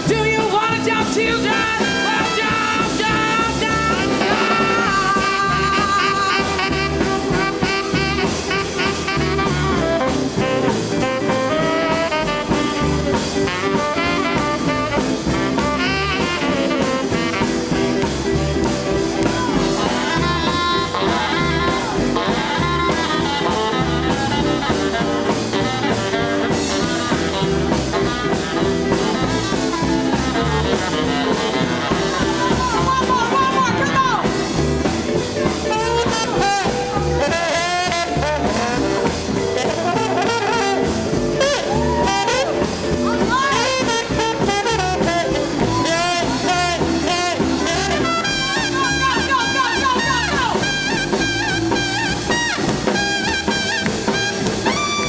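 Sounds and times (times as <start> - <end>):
bass: 0.0 - 55.0
drum kit beat: 0.0 - 55.0
guitar: 0.0 - 55.0
horn lead lines: 0.0 - 55.0.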